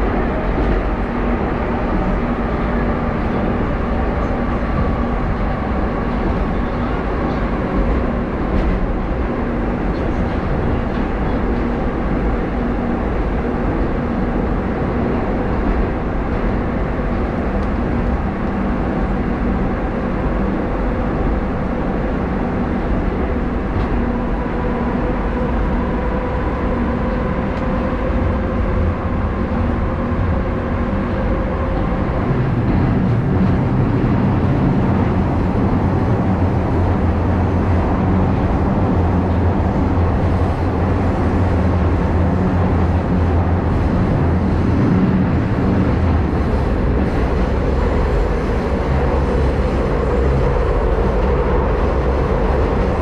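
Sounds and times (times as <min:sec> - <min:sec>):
metro train wheels rumbling: 0:00.0 - 0:53.0.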